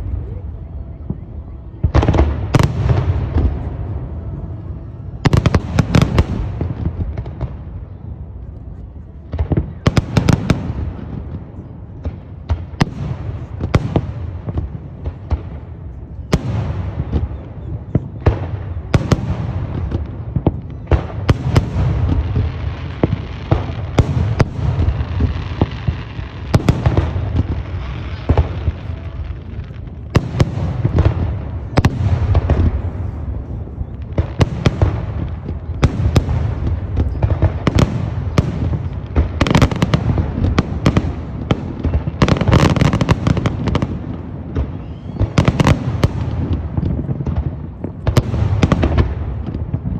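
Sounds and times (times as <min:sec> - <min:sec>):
fireworks bangs and booms: 0:00.0 - 0:49.9.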